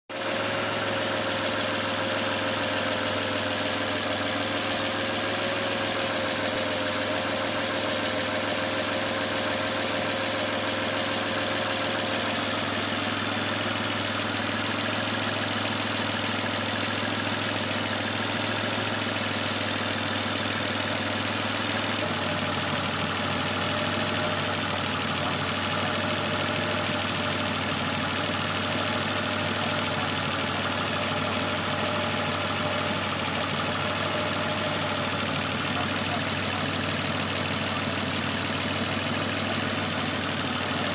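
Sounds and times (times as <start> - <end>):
car engine idling: 0.1 - 40.9.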